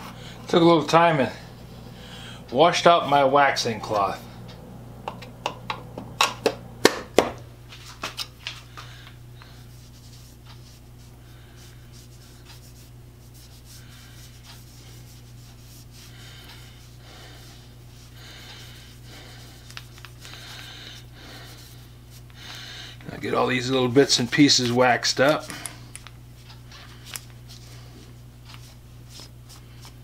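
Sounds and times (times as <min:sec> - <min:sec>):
cloth rubbing wax on tools: 0:00.0 - 0:06.8, 0:09.4 - 0:22.4, 0:23.0 - 0:25.6, 0:26.9 - 0:30.0.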